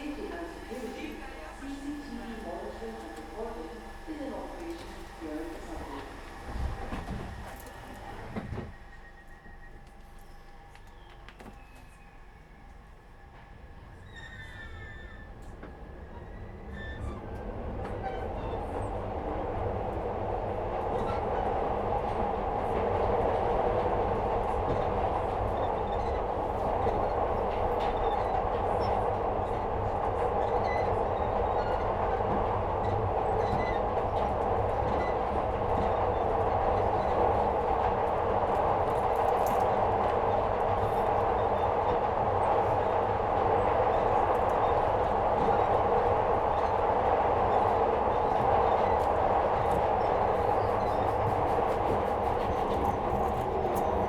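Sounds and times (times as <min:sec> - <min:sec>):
subway train rumble: 0:00.0 - 0:54.0.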